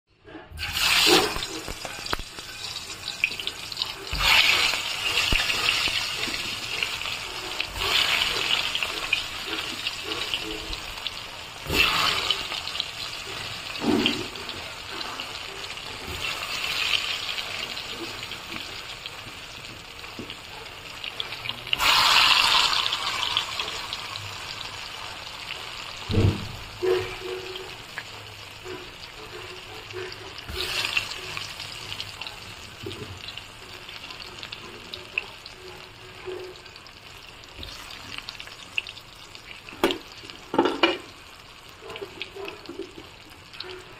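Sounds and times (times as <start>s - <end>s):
hot oil sizzling in a wok: 0.6s - 43.9s.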